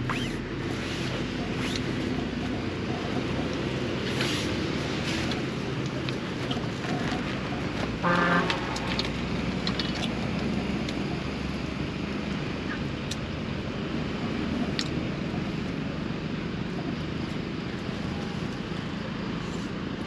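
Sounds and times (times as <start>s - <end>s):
road traffic rumble: 0.0s - 20.0s
wind: 0.0s - 20.0s.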